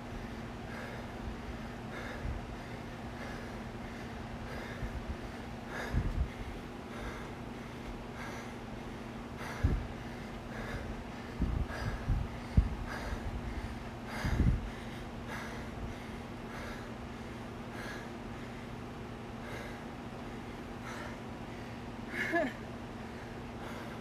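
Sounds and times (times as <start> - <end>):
low hum: 0.0 - 24.0
person breathing hard: 0.2 - 24.0.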